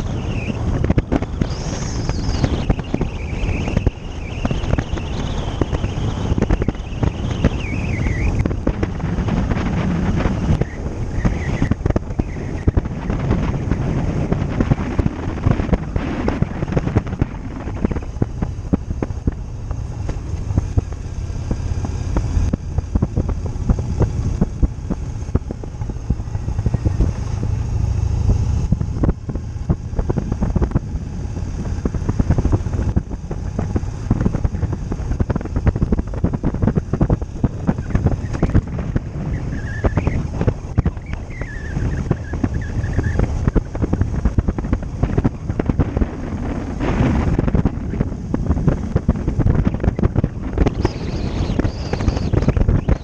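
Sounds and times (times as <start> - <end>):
motorcycle engine and road drone: 0.0 - 53.0
wind buffeting microphone: 0.0 - 53.0.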